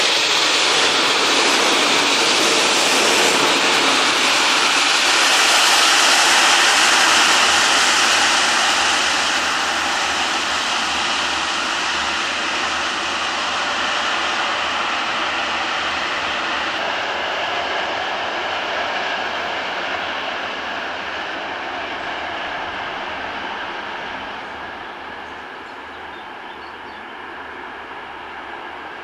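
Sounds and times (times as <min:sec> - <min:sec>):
train wheels rushing on rail: 0:00.0 - 0:29.0.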